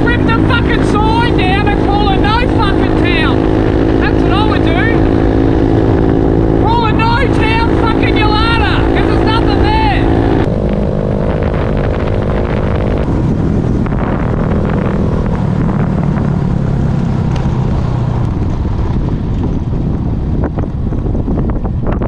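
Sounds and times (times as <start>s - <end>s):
motorbike engine running: 0.0s - 22.0s
wind buffeting microphone: 0.0s - 22.0s.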